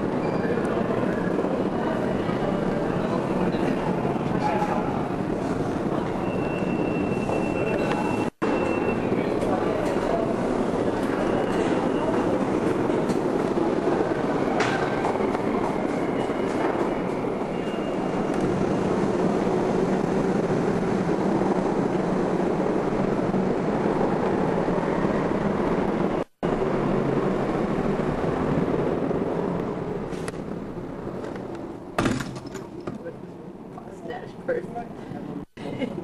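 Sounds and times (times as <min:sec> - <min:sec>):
subway train rumble: 0:00.0 - 0:32.0.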